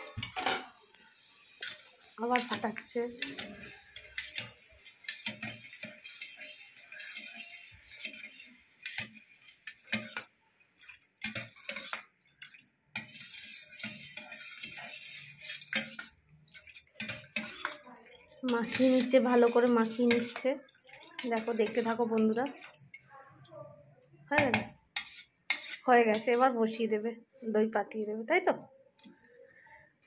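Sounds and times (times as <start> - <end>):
ladle clinking and scraping bowl: 0.0 - 0.9, 1.5 - 23.1, 24.4 - 26.6.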